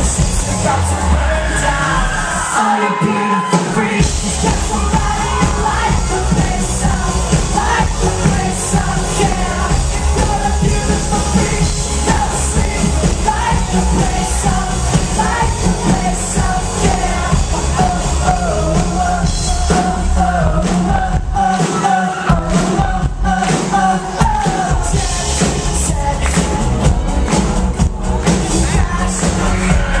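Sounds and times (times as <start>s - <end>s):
lead singer's voice: 0.0s - 30.0s
live pop-rock band: 0.0s - 30.0s.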